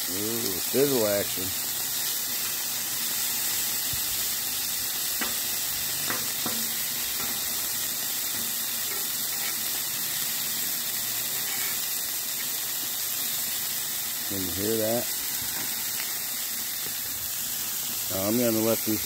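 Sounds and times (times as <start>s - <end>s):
burger patties sizzling on griddle: 0.0s - 19.0s.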